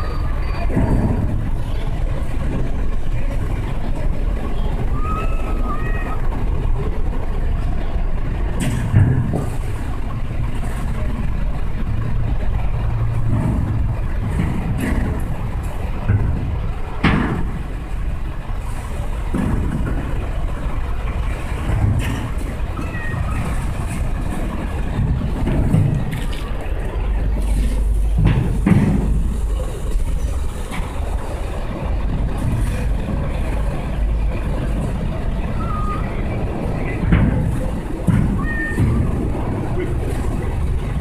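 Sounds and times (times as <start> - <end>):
steady low rumble: 0.0 - 41.0.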